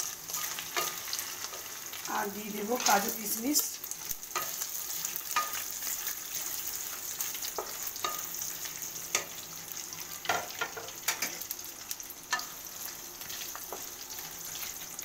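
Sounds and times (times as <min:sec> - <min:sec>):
nuts frying in oil sizzling: 0:00.0 - 0:15.0.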